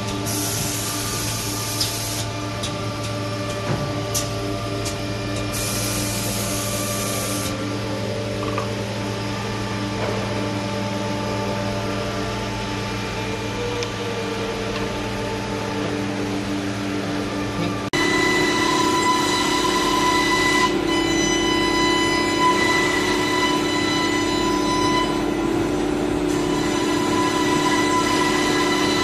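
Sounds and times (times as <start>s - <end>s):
factory machinery humming: 0.0s - 29.0s.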